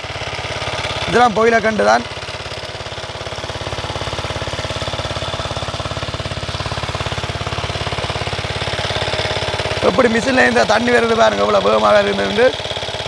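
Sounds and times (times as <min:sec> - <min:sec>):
water pump engine running: 0:00.0 - 0:13.0.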